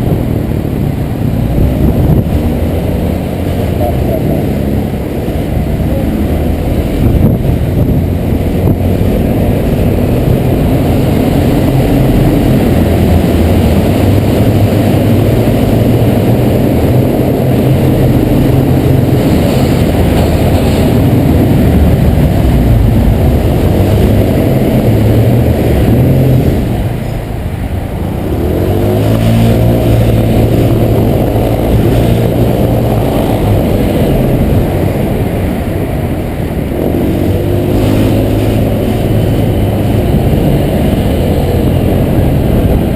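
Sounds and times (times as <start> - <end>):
scooter engine: 0.0 - 42.9
wind rumble on microphone: 0.0 - 42.9.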